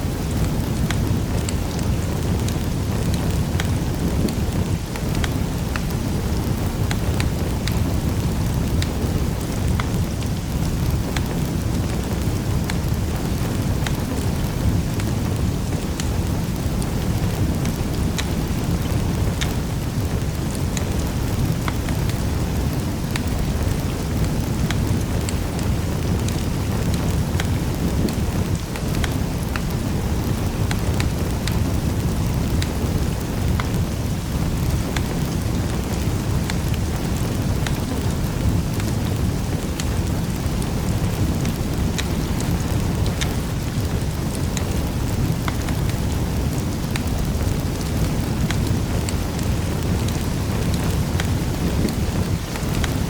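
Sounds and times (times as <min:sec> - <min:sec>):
logs popping and crackling: 0:00.0 - 0:53.0
wood fire burning: 0:00.0 - 0:53.0.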